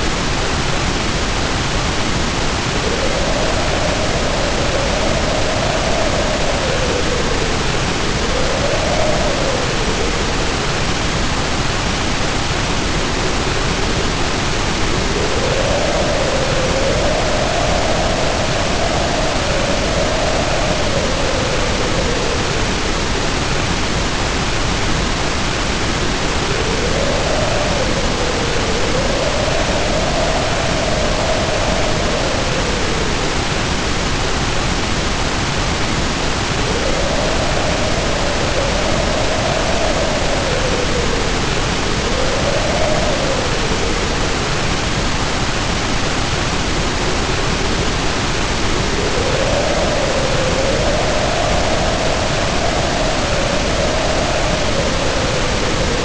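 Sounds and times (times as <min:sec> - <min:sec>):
heavy rain pouring: 0:00.0 - 0:56.0
wind howling: 0:00.0 - 0:56.0.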